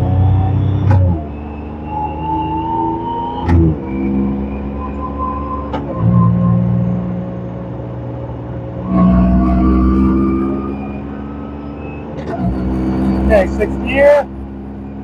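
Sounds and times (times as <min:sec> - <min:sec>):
engine pulling at low speed: 0:00.0 - 0:15.0.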